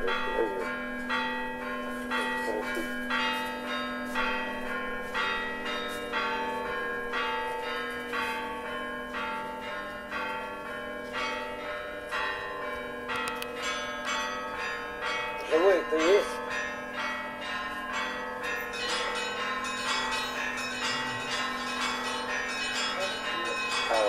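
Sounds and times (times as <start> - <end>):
large bell humming: 0.0 - 24.0
small church bells ringing: 0.0 - 24.0.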